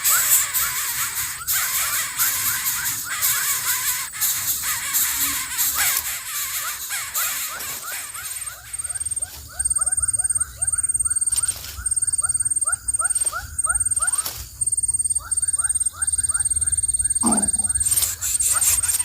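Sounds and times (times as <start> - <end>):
bird chicks peeping: 0.0 - 19.0.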